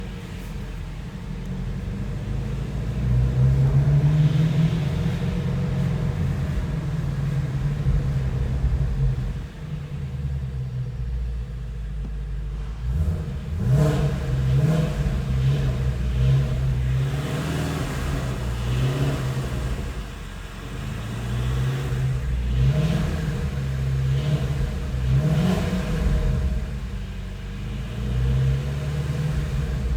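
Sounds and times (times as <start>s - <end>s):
car engine revving: 0.0s - 29.9s
engine rattle: 0.0s - 29.9s.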